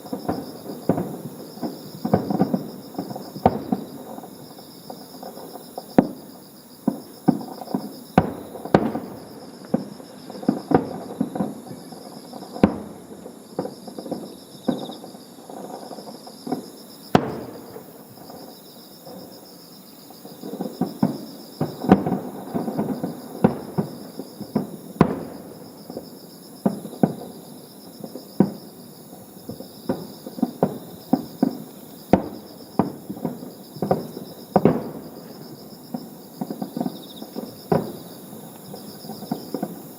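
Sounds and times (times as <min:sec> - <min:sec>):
fireworks booming: 0:00.0 - 0:19.4, 0:20.2 - 0:39.9.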